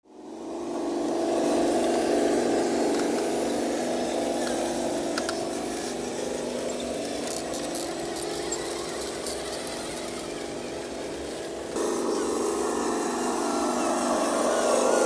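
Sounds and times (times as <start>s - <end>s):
toy truck motor whining: 0.5s - 15.0s.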